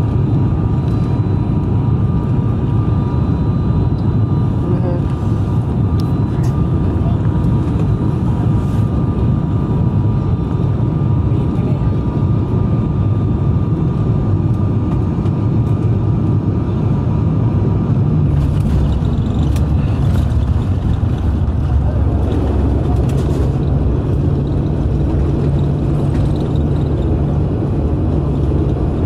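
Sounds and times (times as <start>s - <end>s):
turboprop engine drone: 0.0s - 29.0s.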